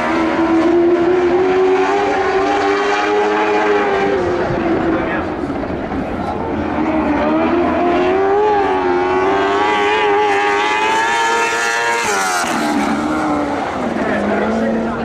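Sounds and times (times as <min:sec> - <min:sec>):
sprint car engine accelerating: 0:00.0 - 0:15.0.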